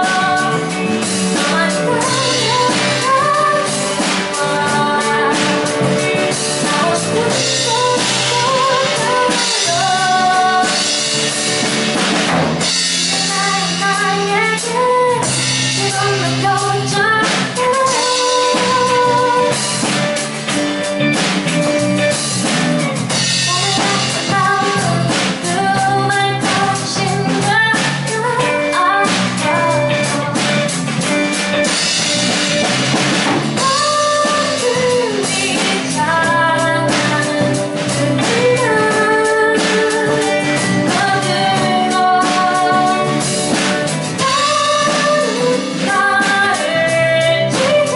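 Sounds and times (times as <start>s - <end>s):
person singing into microphone: 0.0s - 11.4s, 13.0s - 20.1s, 23.3s - 31.1s, 33.5s - 47.9s
live band playing: 0.0s - 47.9s.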